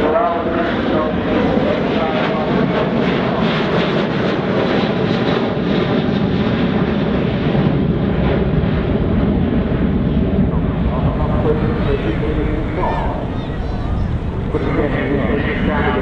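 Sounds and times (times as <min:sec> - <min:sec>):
jet engines in flight: 0:00.0 - 0:16.0.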